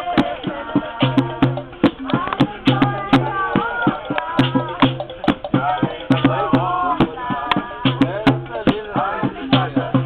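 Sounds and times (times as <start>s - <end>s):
drums playing a rhythm: 0.0s - 10.0s
voices singing: 0.0s - 10.0s.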